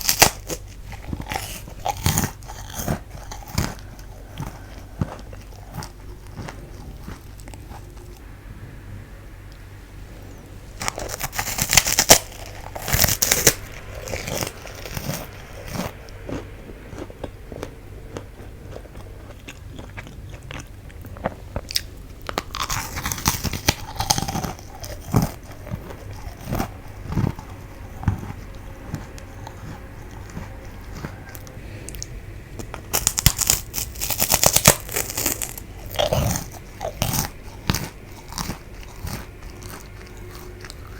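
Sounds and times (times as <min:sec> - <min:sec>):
crisp crunching bites: 0:00.0 - 0:08.2, 0:10.8 - 0:31.6, 0:32.6 - 0:40.9
quiet chewing crunches: 0:00.0 - 0:08.3, 0:10.2 - 0:40.9.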